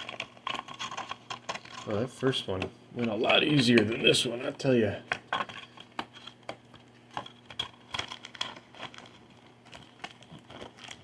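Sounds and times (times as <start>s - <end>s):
foil packaging crinkling and tearing: 0.0s - 11.0s.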